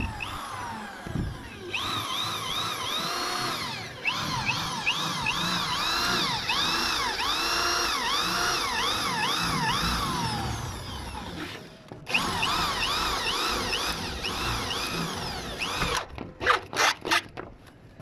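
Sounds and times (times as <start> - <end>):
electric drill driving screw: 0.0 - 17.2.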